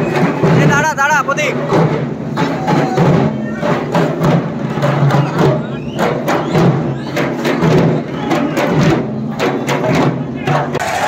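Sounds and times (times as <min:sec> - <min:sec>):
drums beating quickly: 0:00.0 - 0:11.0
crowd voices: 0:01.6 - 0:11.0.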